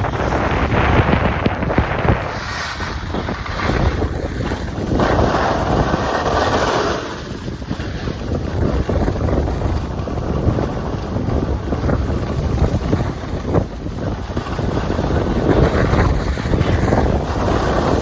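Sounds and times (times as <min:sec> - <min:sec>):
skis sliding over snow: 0:00.0 - 0:18.0
wind buffeting microphone: 0:00.0 - 0:18.0.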